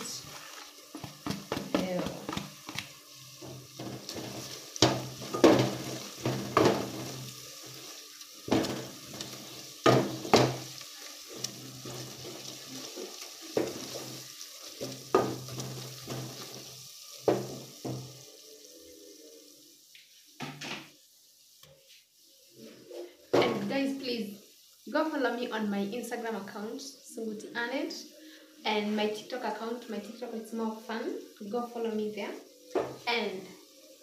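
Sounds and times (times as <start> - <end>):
oil sizzling: 0.0 - 34.0.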